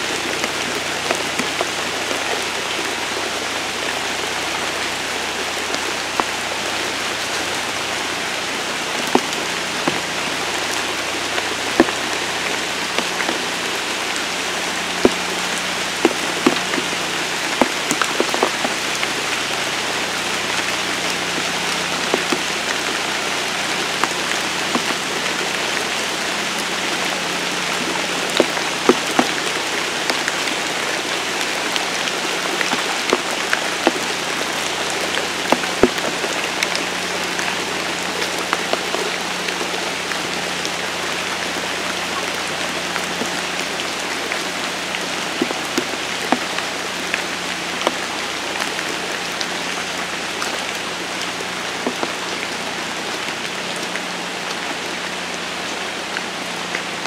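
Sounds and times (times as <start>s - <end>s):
heavy rain falling: 0.0s - 57.0s
raindrops tapping close by: 0.0s - 57.0s.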